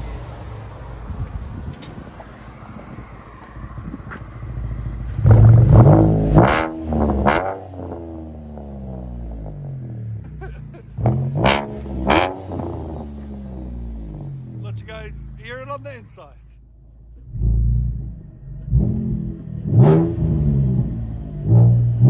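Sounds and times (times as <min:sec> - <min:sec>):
car engine revving and idling: 0:00.0 - 0:22.0
exhaust cracks: 0:01.1 - 0:22.0.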